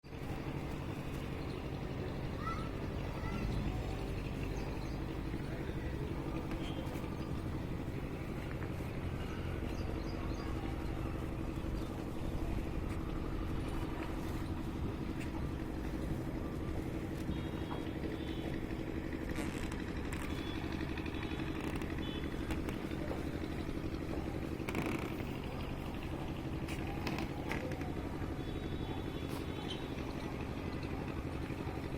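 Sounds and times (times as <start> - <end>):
engine running low rumble: 0.1 - 31.9.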